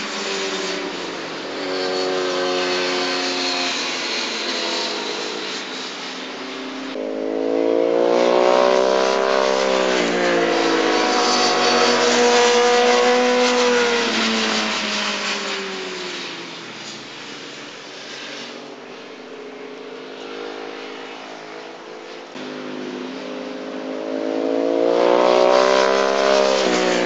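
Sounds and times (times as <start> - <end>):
motorcycle engine revving high: 0.0 - 17.5, 18.7 - 27.0.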